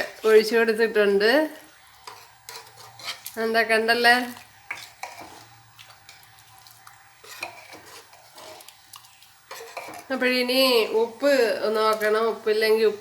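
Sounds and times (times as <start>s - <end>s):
stirring in a cooking pot: 0.0s - 13.0s.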